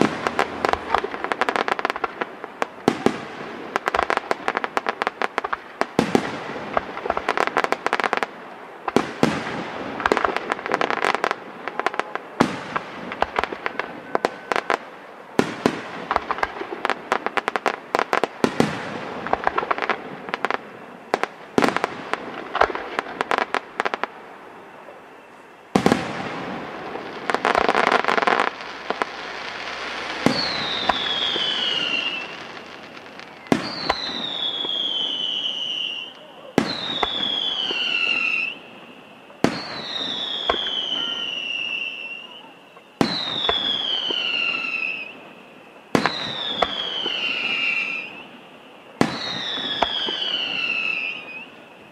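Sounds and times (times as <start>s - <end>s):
fireworks bangs and crackling: 0.0s - 51.9s
firework whistle falling: 8.9s - 48.4s, 49.0s - 51.9s.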